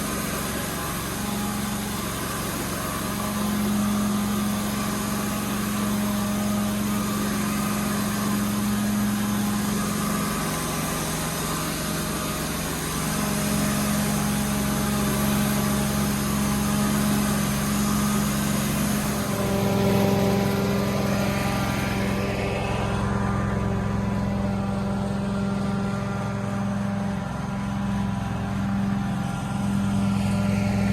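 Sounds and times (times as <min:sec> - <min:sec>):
extraction machine motor hum: 0:00.0 - 0:30.9.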